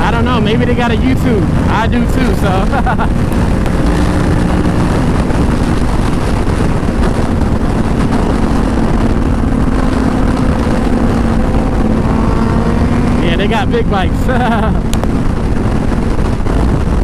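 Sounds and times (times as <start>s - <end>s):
motorcycle engine cruising: 0.0s - 17.0s
wind rush on microphone: 0.0s - 17.0s.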